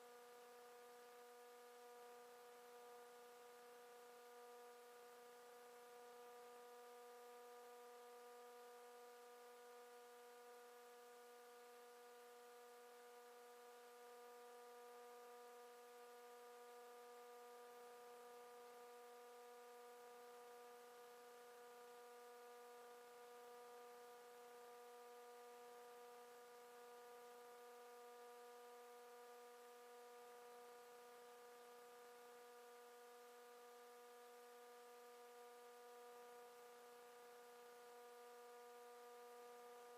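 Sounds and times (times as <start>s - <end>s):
faint electrical hum: 0.0s - 39.9s
soft hiss: 0.0s - 39.9s.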